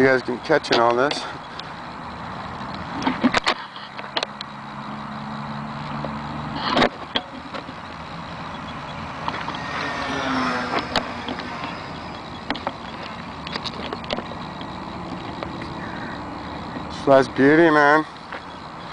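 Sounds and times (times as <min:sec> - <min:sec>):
electric motors droning: 0:00.0 - 0:18.9.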